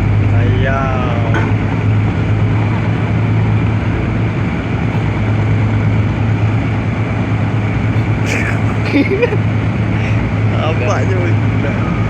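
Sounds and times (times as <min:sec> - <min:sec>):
diesel engine low hum: 0:00.0 - 0:12.0.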